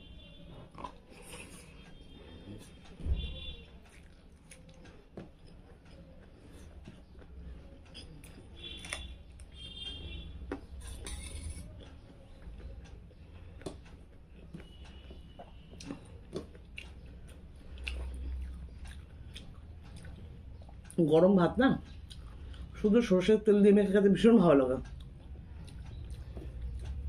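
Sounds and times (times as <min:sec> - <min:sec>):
person chewing food: 0:00.5 - 0:22.7, 0:24.8 - 0:27.0.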